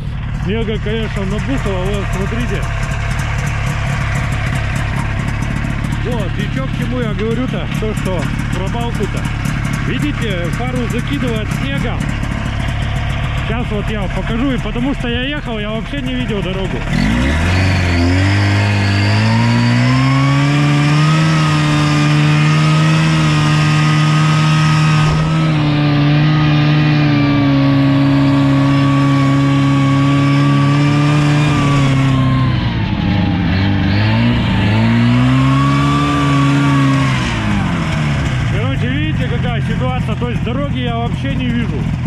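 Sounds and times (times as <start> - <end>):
snowmobile engine revving: 0.0 - 42.0.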